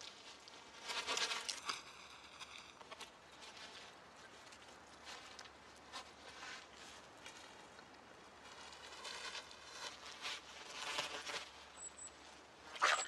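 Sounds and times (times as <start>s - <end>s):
beavers crunching and scraping: 0.0s - 13.0s.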